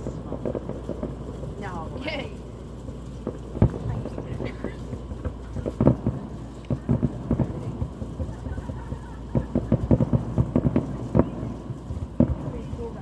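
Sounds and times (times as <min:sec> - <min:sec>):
fireworks popping and thumping: 0:00.0 - 0:13.0.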